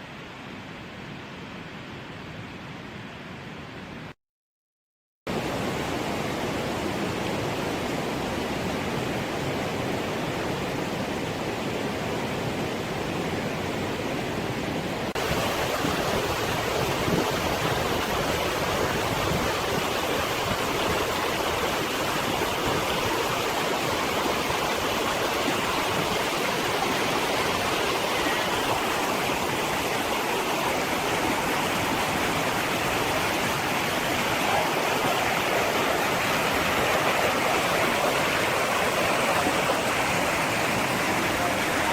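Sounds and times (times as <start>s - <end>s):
running water rushing: 5.3s - 41.9s.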